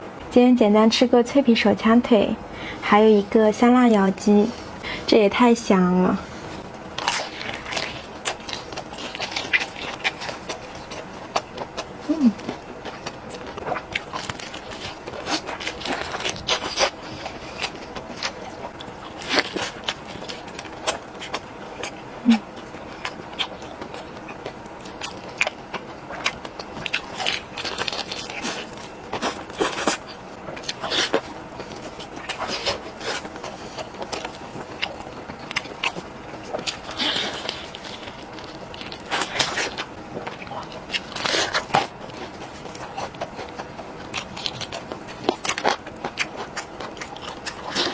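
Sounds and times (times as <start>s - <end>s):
crunchy chewing of chicken: 6.3s - 47.9s.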